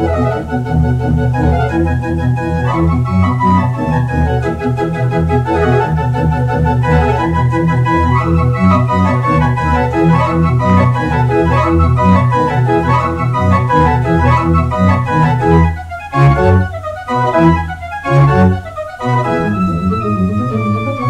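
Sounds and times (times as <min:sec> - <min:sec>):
pipe organ playing lively piece: 0:00.0 - 0:21.0.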